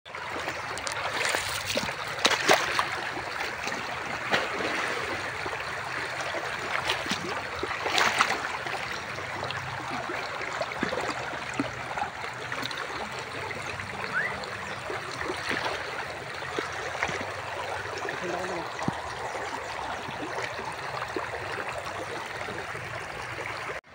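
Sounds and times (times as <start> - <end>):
stream trickling over rocks: 0.1 - 23.9.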